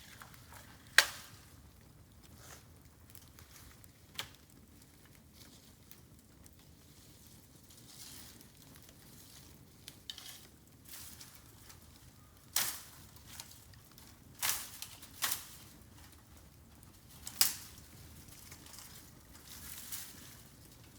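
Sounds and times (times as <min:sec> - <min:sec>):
bamboo popping in fire: 0:00.0 - 0:20.9
fire crackling: 0:00.0 - 0:20.9.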